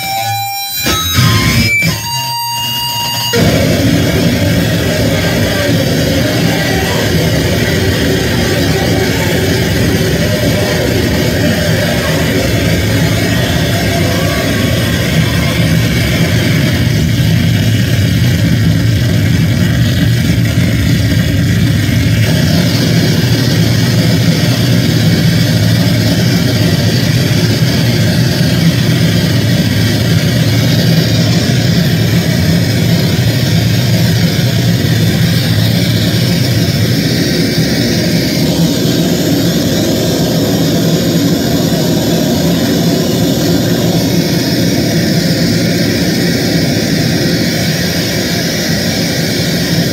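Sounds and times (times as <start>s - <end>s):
harsh noise music static: 0.0s - 49.9s
heavy low rumble: 3.2s - 49.9s.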